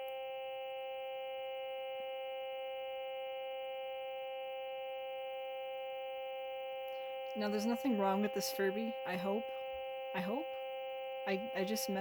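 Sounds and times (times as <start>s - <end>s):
steady electronic tone: 1.1s - 12.0s.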